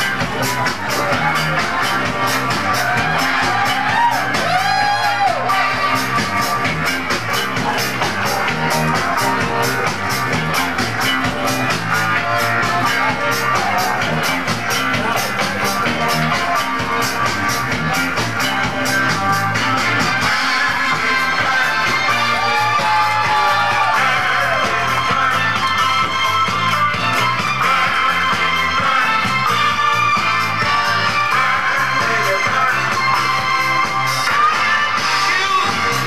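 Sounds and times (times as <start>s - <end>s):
rock music with drums and guitar: 0.0s - 36.0s.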